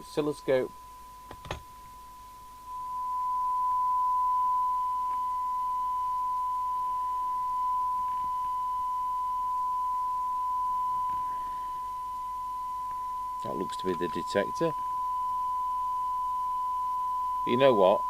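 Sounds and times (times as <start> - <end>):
steady test tone from radio loudspeaker: 0.0 - 18.0.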